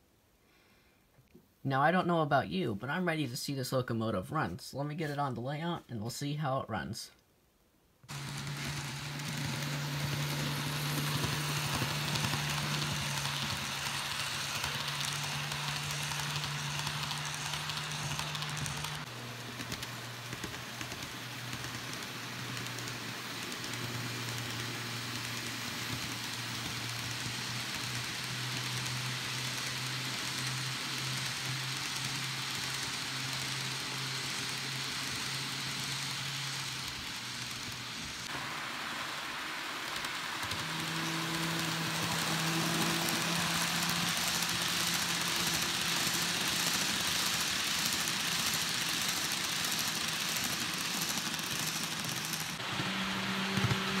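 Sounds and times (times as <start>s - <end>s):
model train motors humming: 8.1s - 54.0s
wheels rattling on rails: 8.1s - 54.0s.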